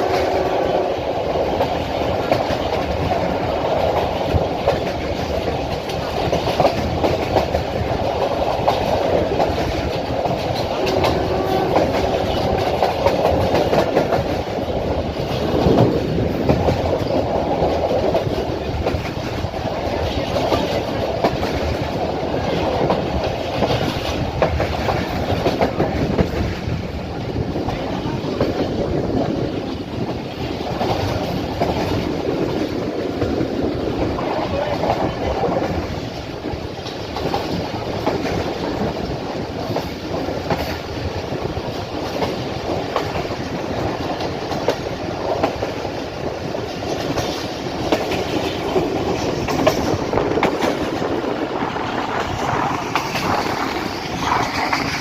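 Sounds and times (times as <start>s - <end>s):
train coaches rumbling: 0.0s - 55.0s
wheels clicking over rail joints: 0.0s - 55.0s.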